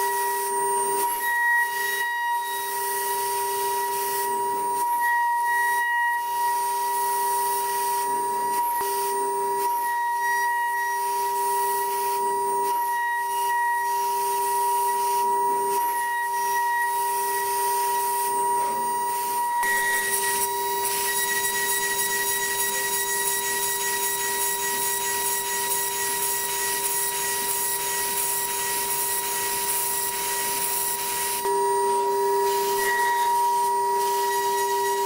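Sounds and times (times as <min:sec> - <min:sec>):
high-pitched spindle whine: 0:00.0 - 0:35.0
hiss of metal cutting: 0:06.1 - 0:35.0.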